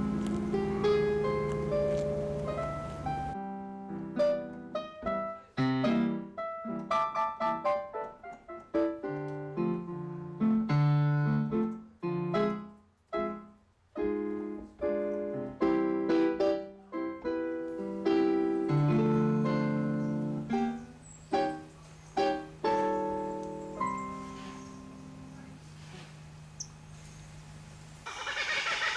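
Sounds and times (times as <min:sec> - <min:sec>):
piano music: 0:00.0 - 0:27.8.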